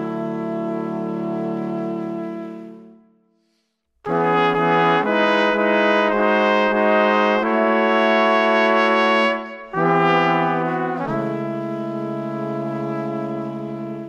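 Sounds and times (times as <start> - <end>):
brass-like held chords: 0.0 - 3.2, 4.1 - 14.0.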